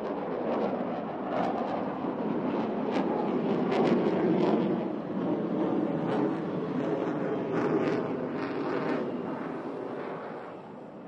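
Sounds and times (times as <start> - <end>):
fighter jets roaring overhead: 0.0 - 11.0.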